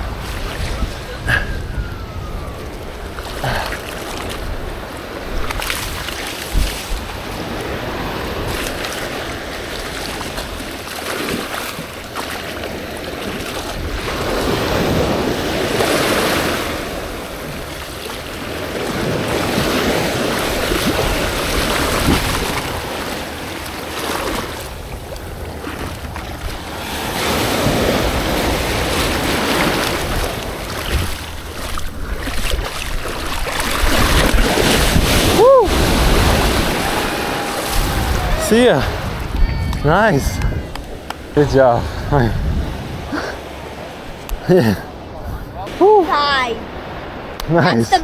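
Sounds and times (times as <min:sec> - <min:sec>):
surf breaking on beach: 0:00.0 - 0:48.0
wind buffeting microphone: 0:00.0 - 0:48.0.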